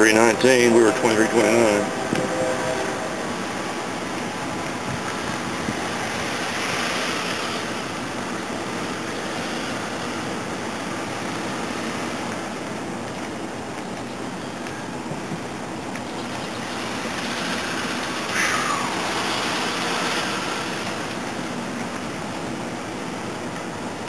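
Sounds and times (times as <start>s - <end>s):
road and wind noise in car: 0.0s - 24.0s.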